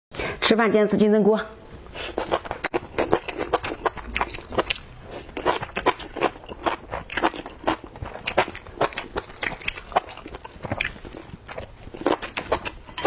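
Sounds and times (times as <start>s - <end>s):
chewing: 1.9s - 13.0s.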